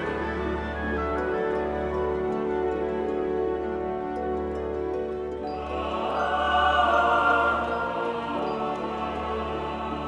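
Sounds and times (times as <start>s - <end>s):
slow music of held chords: 0.0s - 10.0s.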